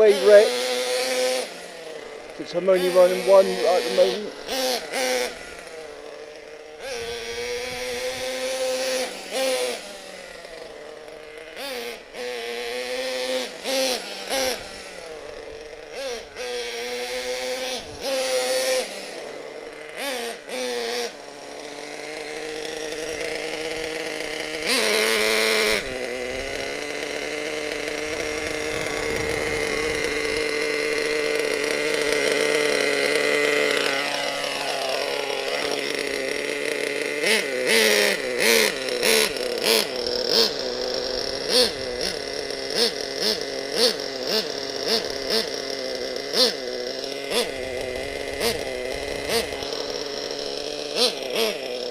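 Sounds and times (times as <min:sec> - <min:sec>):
nitro rc engine revving: 0:00.0 - 0:51.9.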